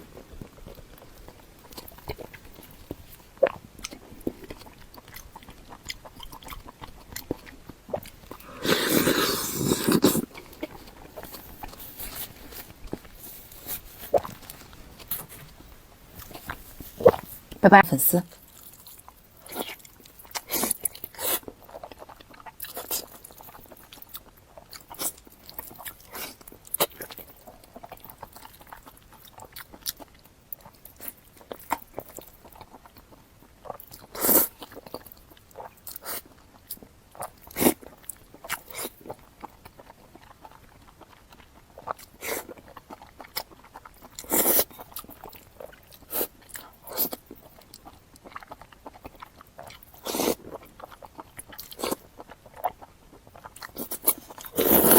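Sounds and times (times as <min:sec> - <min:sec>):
crunching and chewing: 0:00.0 - 0:17.6, 0:18.3 - 0:54.9.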